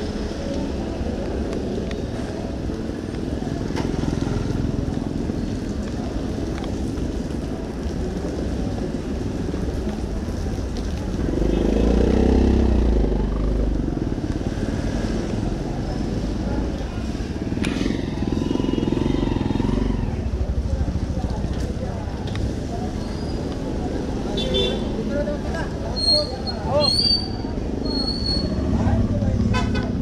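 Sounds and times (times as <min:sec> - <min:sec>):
street traffic noise: 0:00.0 - 0:30.0.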